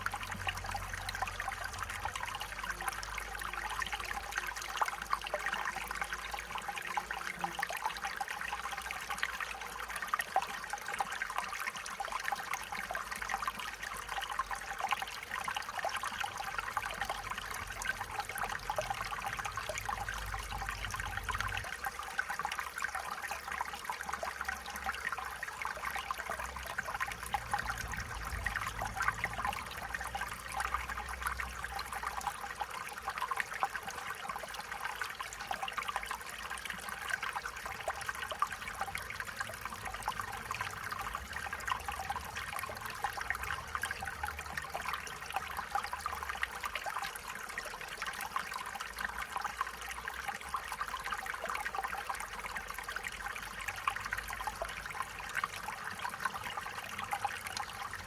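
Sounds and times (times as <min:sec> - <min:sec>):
stream water babbling over stones: 0:00.0 - 0:58.0.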